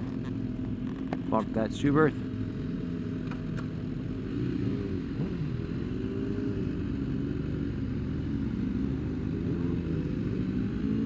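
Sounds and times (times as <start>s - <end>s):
racing motorcycle engines revving: 0.0s - 11.0s.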